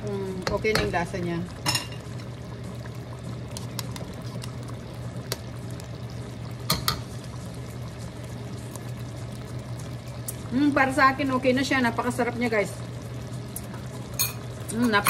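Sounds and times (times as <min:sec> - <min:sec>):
cream sauce bubbling in wok: 0:00.0 - 0:15.0.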